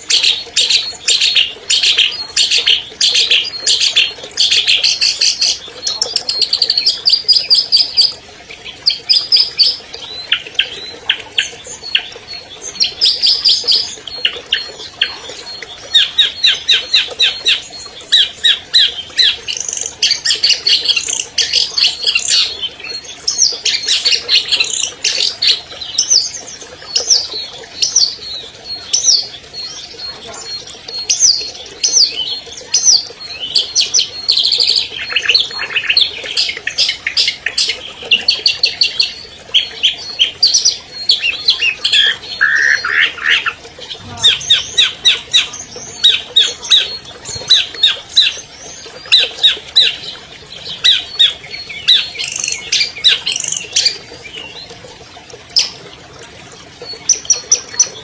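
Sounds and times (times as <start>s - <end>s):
bird singing varied song: 0.0s - 54.8s.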